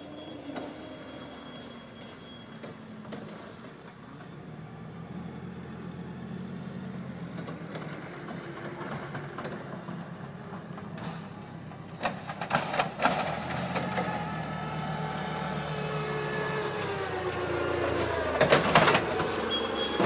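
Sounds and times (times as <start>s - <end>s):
forklift engine running: 0.0s - 20.0s.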